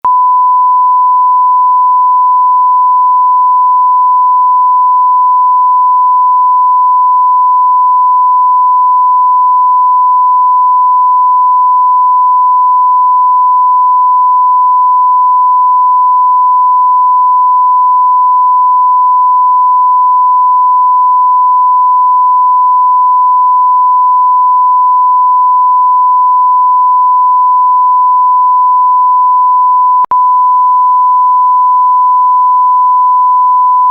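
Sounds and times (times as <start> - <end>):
censor bleep tone: 0.0 - 33.9.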